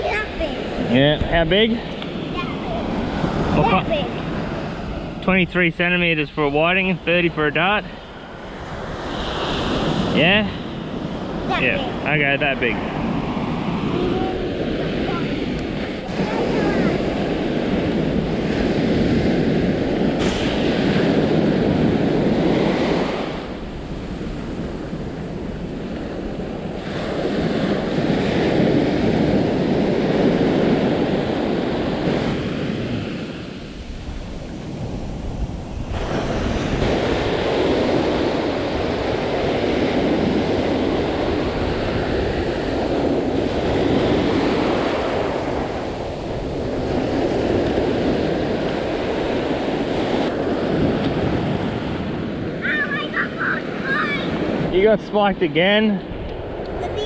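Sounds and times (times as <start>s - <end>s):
surf breaking on sand: 0.0s - 57.0s
wind rumbling on microphone: 0.0s - 57.0s.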